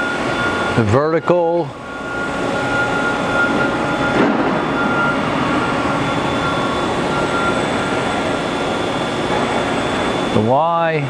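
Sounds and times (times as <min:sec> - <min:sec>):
machine axis mechanical hum: 0:00.0 - 0:11.0.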